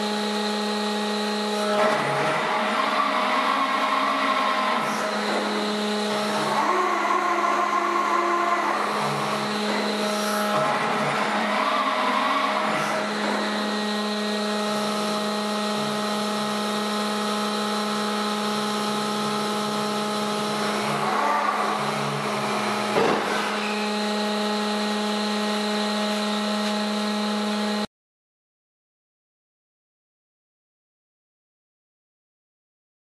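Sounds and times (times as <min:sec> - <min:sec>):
hydraulic winch humming: 0:00.0 - 0:27.9.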